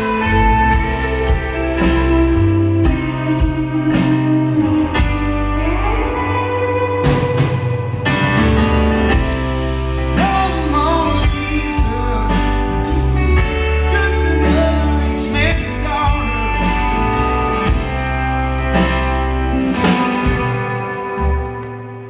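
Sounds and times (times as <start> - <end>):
live country-rock band: 0.0 - 22.0.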